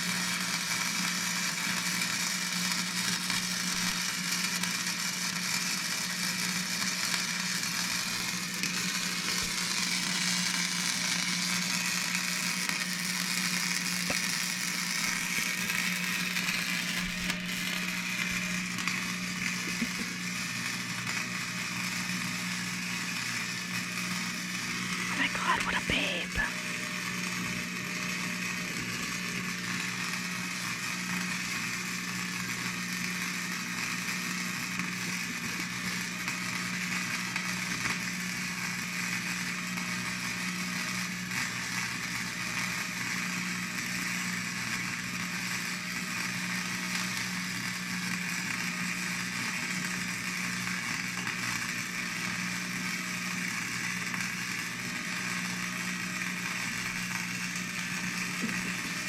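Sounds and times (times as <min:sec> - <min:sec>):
welding arc crackling: 0:00.0 - 0:59.0
welding machine electrical hum: 0:00.0 - 0:59.0.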